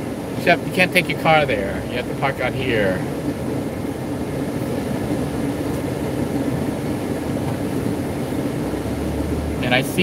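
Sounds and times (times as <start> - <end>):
vehicle engine and tyre rumble: 0.0 - 10.0.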